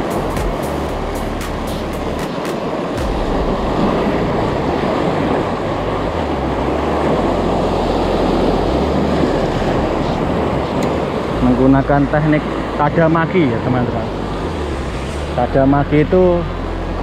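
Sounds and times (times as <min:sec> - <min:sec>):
surf washing over rocks: 0:00.0 - 0:17.0
wind rumbling on microphone: 0:00.0 - 0:17.0.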